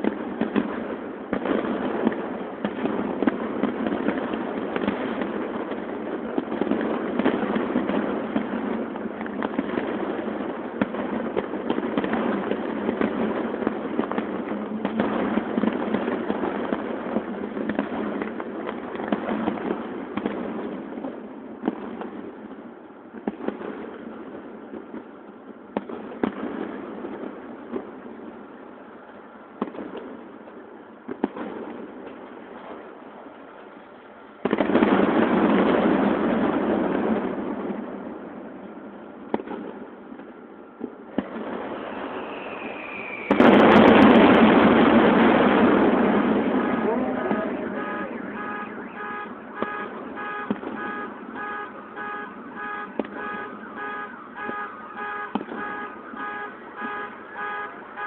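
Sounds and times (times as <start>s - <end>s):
dense steady background noise: 0.0s - 58.0s
fireworks bangs and crackles: 0.0s - 58.0s.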